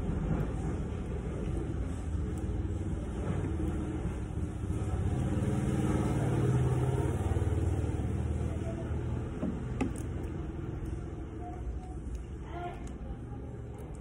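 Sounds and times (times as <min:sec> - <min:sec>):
vehicle engine rumble: 0:00.0 - 0:12.3.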